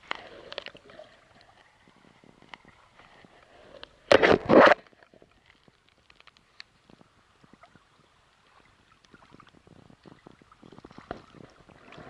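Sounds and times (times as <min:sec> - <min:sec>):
small clicks and crackles: 0:00.0 - 0:12.0
water lapping and gurgling: 0:00.0 - 0:12.0.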